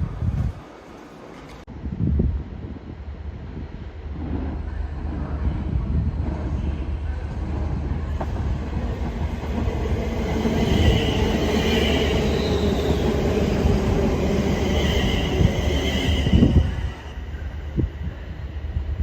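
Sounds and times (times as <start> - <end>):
train rumbling over rails: 0.0 - 19.0.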